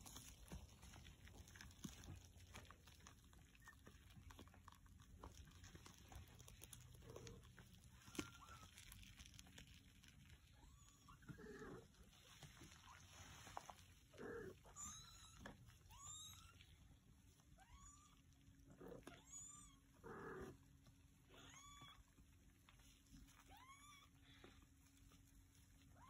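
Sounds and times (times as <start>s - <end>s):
soft rustles: 0.0s - 17.6s, 20.4s - 26.0s.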